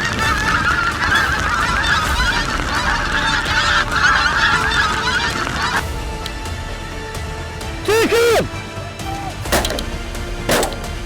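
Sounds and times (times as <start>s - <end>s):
geese honking: 0.0s - 5.8s, 7.8s - 11.0s.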